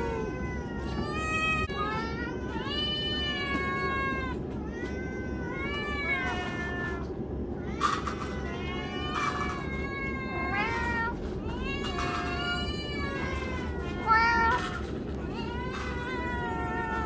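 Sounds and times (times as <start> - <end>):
cats meowing: 0.0 - 17.0
steady low hum: 0.0 - 17.0.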